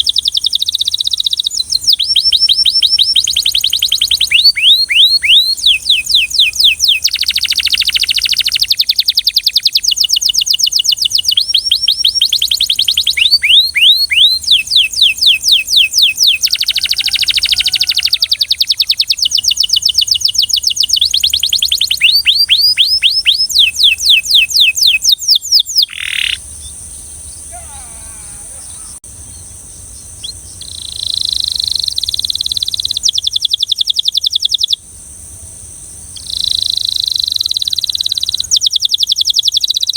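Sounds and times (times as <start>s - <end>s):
canary singing trills: 0.0s - 34.8s, 36.0s - 39.9s.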